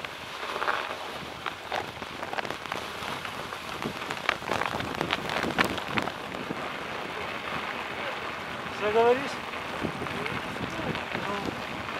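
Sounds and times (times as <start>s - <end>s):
bicycle tyres crunching on snow: 0.0s - 11.9s.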